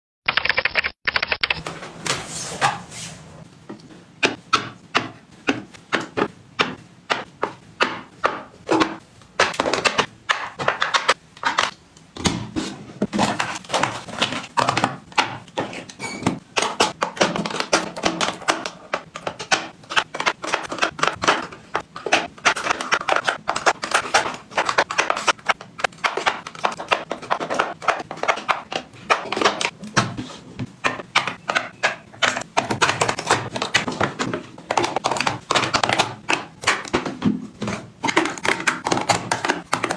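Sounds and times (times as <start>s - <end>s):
containers tapping and knocking: 3.7s - 11.8s, 13.0s - 39.9s.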